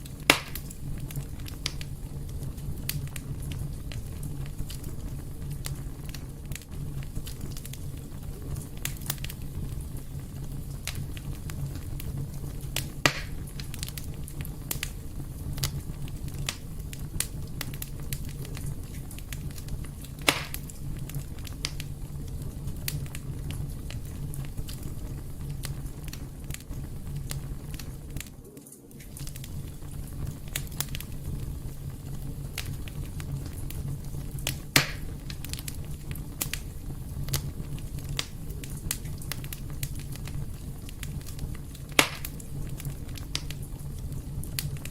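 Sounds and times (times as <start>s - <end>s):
fire burning with crackles: 0.0s - 44.9s
sharp fire pops: 0.0s - 44.9s.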